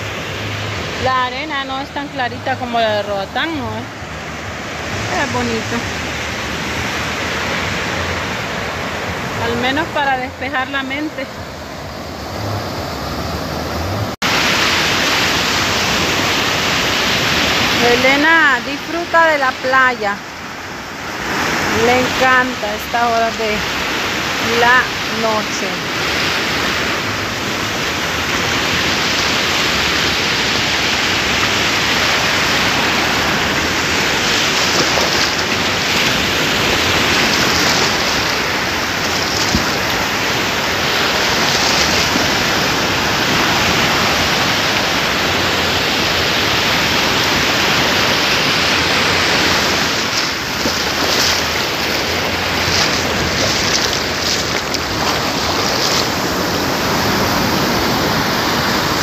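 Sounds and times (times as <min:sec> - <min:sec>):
sea surf breaking on beach: 0:00.0 - 0:59.0.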